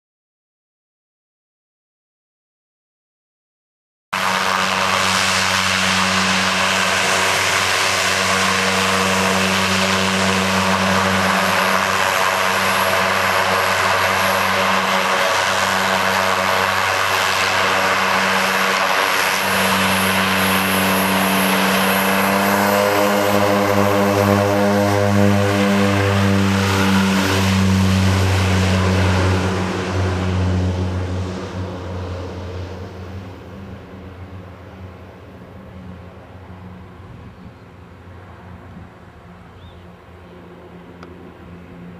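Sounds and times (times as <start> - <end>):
propeller drone: 4.1 - 41.9
high turbine whine: 4.2 - 41.9.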